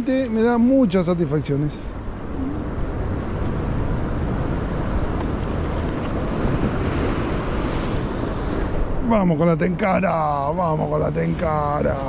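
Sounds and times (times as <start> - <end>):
wind buffeting microphone: 1.9 - 12.0.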